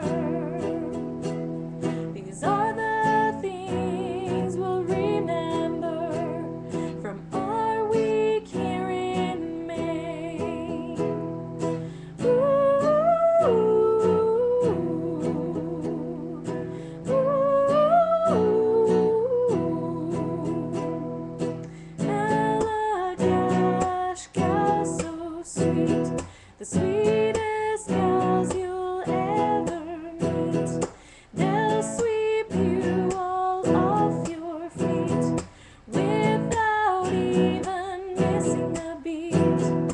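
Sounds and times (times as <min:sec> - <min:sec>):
person singing with vibrato: 0:00.0 - 0:39.9
strummed acoustic guitar: 0:00.0 - 0:39.9.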